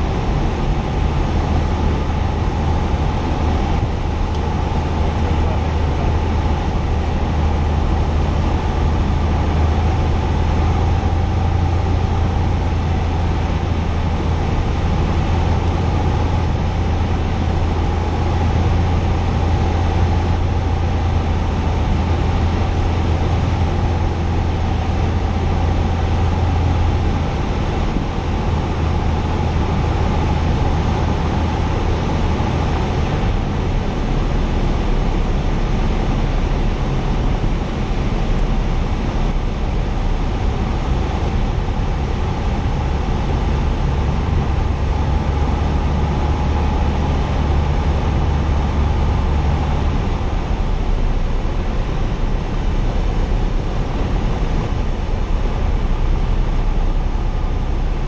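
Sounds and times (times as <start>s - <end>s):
propeller engine droning in cabin: 0.0s - 58.0s.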